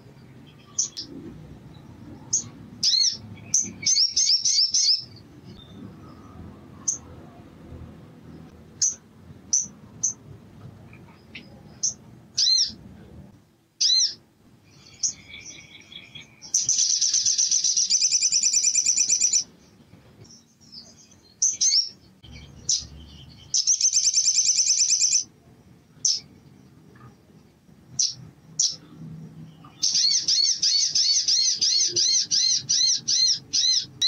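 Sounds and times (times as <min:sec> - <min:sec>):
bird chirping and trilling: 0:00.4 - 0:07.2, 0:08.8 - 0:10.2, 0:11.1 - 0:12.8, 0:13.8 - 0:25.3, 0:25.9 - 0:27.2, 0:27.9 - 0:34.0.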